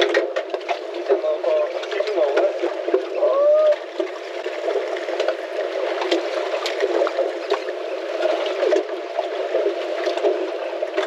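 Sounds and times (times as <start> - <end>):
small splashes: 0.0 - 11.0
water sloshing against hull: 0.0 - 11.0.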